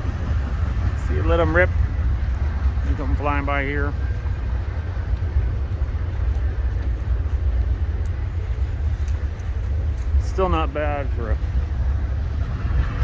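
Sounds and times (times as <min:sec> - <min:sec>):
dirt bike engine rumble: 0:00.0 - 0:13.0.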